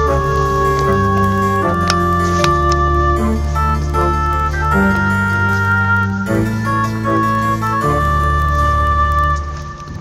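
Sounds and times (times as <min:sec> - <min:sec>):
organ-like keyboard chords: 0:00.0 - 0:10.0.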